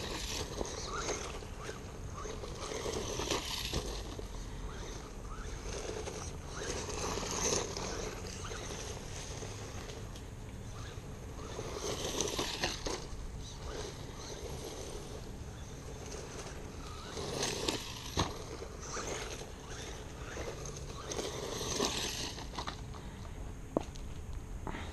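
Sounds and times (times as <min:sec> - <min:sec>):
electric toy truck motor: 0:00.0 - 0:23.3.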